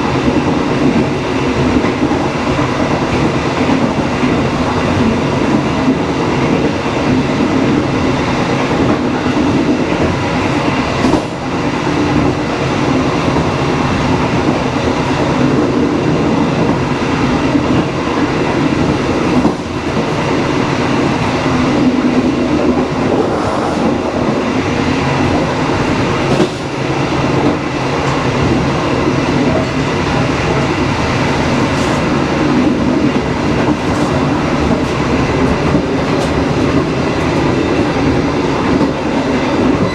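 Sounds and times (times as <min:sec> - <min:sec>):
train rumbling and rattling: 0:00.0 - 0:39.9
train wheels knocking: 0:00.0 - 0:39.9.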